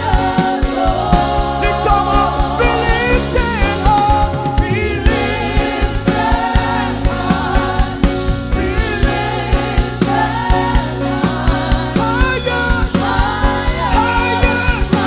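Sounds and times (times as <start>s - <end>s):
voices singing gospel over band: 0.0s - 15.0s.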